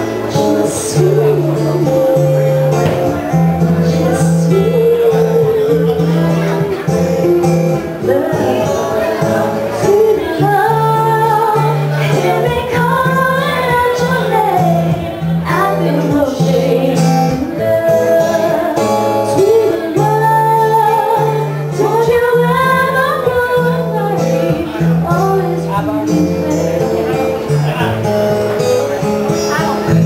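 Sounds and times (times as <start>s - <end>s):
woman singing: 0.0s - 27.4s
guitar: 0.0s - 30.0s.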